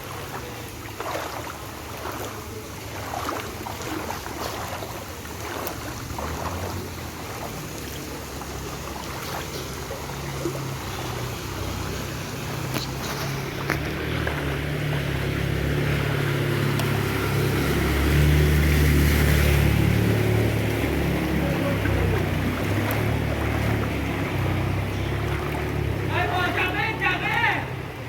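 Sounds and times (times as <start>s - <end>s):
low engine hum: 0.0s - 28.0s
water splashing and sloshing: 0.0s - 28.0s.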